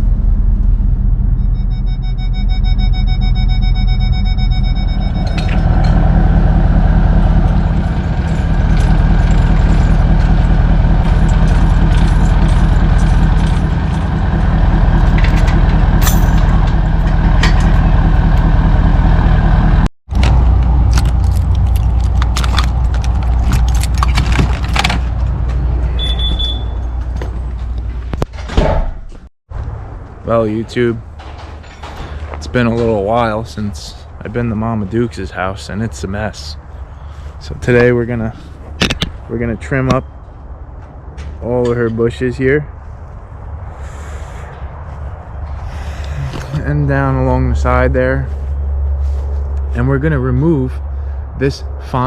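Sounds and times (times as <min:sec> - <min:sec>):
vehicle engine and road rumble: 0:00.0 - 0:52.0.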